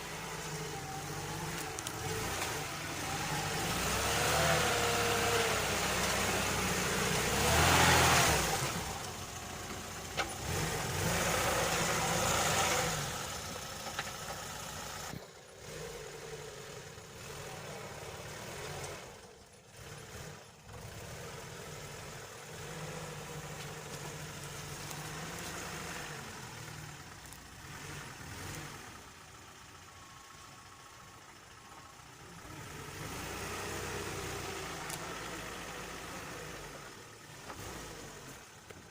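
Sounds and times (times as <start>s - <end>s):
car engine revving: 0.0s - 29.7s, 32.2s - 38.8s.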